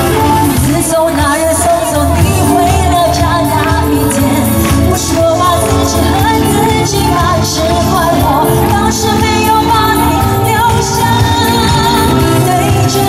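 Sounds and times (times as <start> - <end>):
band music with drums and bass: 0.0 - 13.0
woman singing into a microphone: 0.0 - 13.0.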